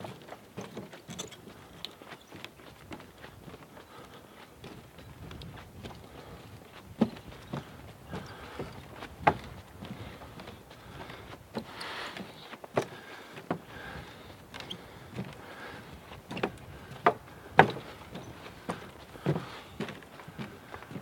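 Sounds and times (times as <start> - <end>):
footsteps on wooden boardwalk: 0.0 - 21.0.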